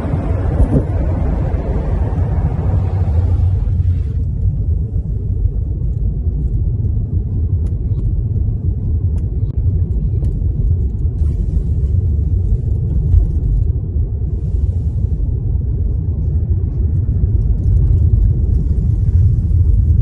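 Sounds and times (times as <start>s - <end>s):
car driving on snowy road: 0.0s - 20.0s.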